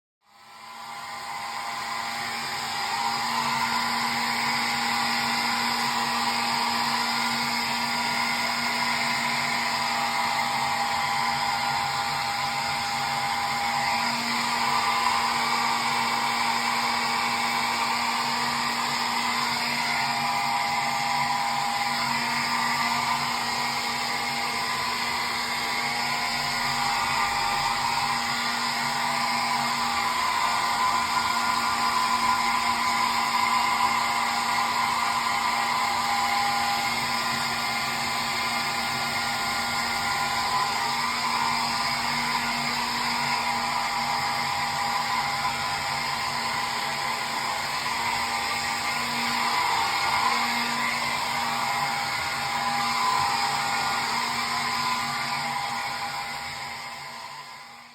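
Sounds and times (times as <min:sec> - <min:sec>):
hair dryer running: 0:00.2 - 0:57.9.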